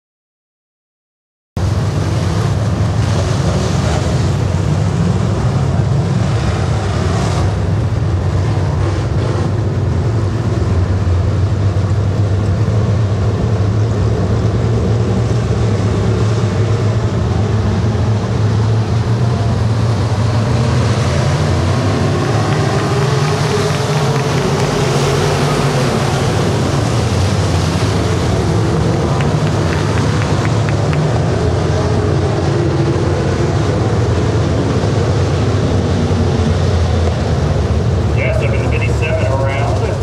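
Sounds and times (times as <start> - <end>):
race car engines droning: 1.6 - 40.0.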